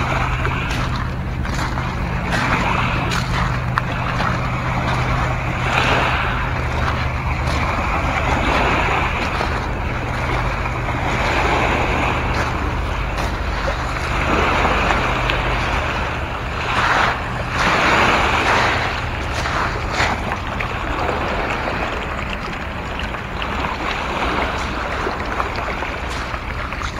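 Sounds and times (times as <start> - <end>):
waves washing over pebbles: 0.0 - 26.9.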